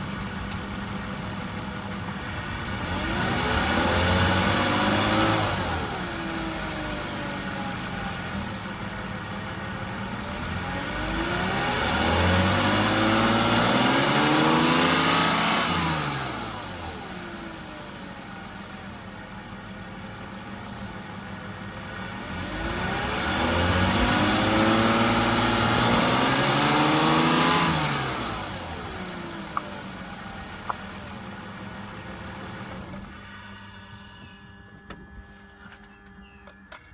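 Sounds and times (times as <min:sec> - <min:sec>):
car engine revving from idle: 0:00.0 - 0:34.4
engine whine: 0:00.0 - 0:36.9.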